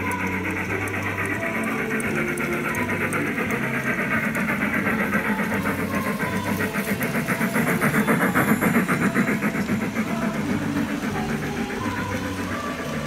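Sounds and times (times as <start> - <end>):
model train wheels clicking on rails: 0.0 - 13.0.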